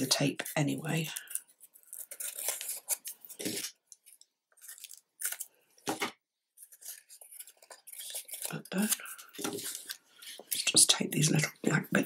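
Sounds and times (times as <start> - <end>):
tape crackling and rustling: 0.3 - 10.9.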